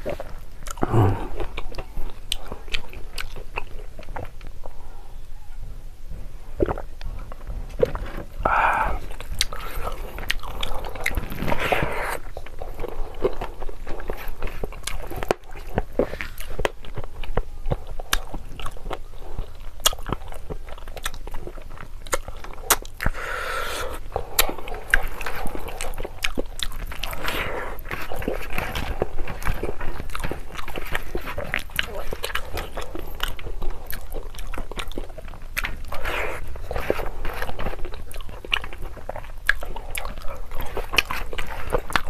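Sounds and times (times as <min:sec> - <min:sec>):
person chewing: 0:00.0 - 0:05.2, 0:06.5 - 0:42.0.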